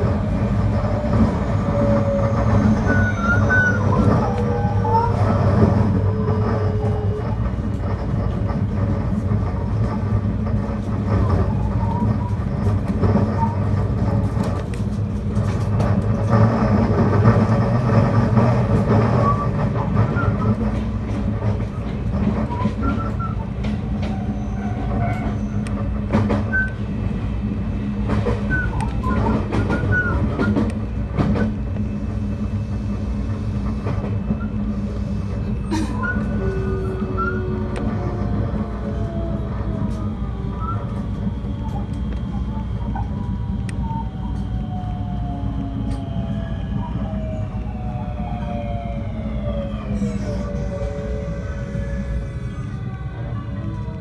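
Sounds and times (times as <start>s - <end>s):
train wheels and motors rumbling: 0.0s - 54.0s.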